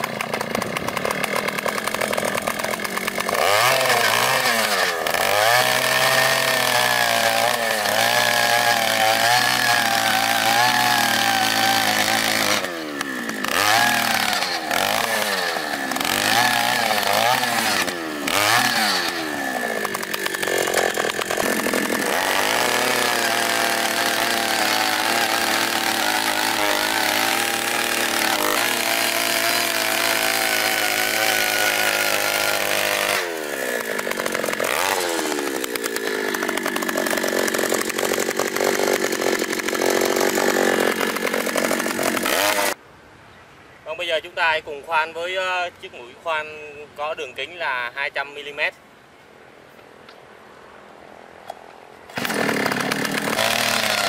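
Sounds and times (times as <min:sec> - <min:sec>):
earth auger engine: 0:00.0 - 0:42.8, 0:52.1 - 0:54.0.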